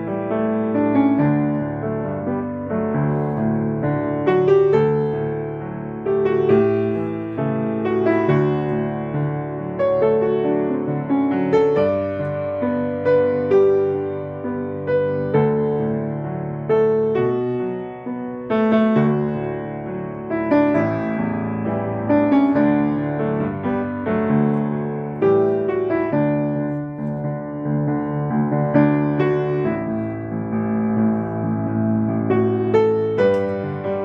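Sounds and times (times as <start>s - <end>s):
slow piano music: 0.0s - 34.0s.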